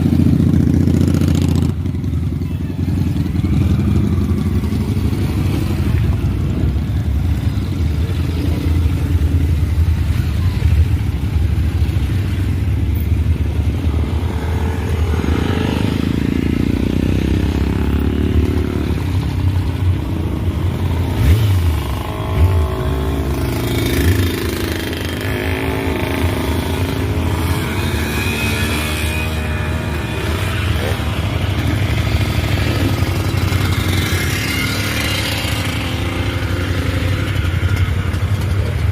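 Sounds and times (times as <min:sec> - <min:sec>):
motorcycle engines rumbling: 0:00.0 - 0:38.9.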